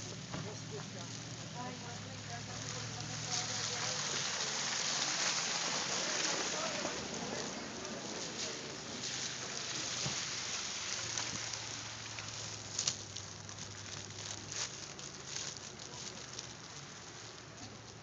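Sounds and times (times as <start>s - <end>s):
plastic wrapping crinkling: 0.5s - 18.0s.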